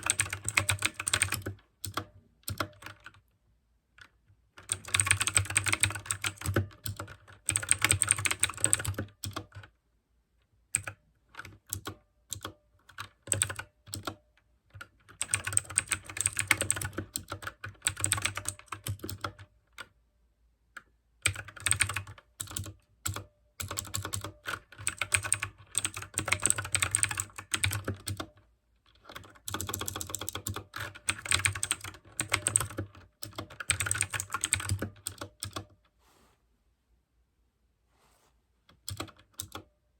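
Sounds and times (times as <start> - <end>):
clicky mechanical keyboard typing: 0.0 - 3.2, 4.0 - 9.8, 10.7 - 20.0, 20.8 - 35.8, 38.7 - 39.7.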